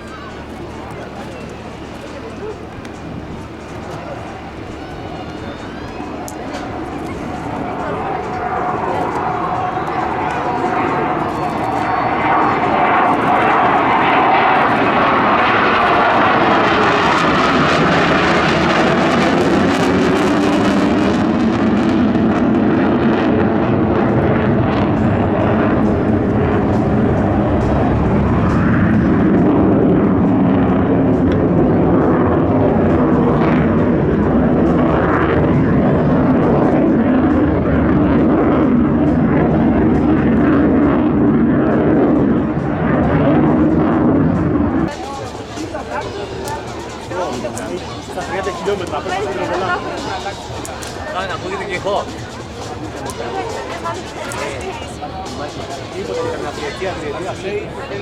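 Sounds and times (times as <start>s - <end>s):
fighter jet flying past: 0.0s - 58.0s.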